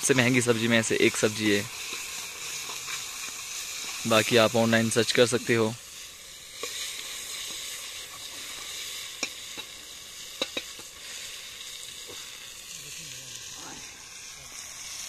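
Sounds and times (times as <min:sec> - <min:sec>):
mushrooms sizzling in a pot: 0:00.0 - 0:15.0.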